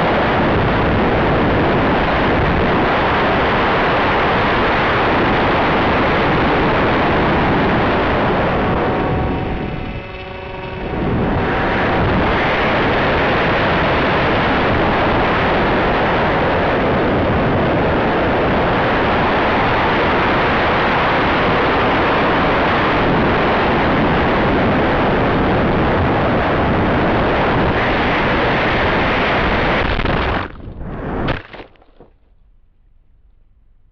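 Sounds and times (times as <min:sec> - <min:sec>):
air rushing over microphone: 0:00.0 - 0:31.4.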